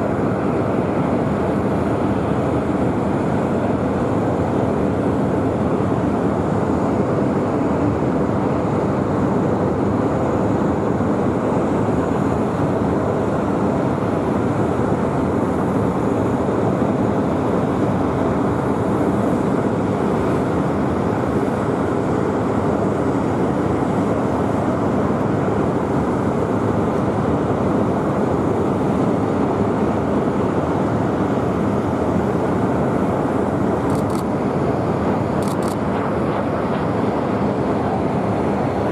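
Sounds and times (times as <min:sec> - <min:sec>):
jet engine roar: 0:00.0 - 0:38.9.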